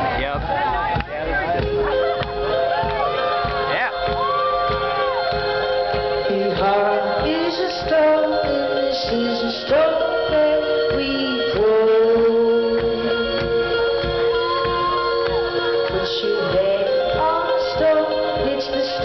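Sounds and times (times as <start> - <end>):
live band through loudspeakers: 0.0 - 19.0.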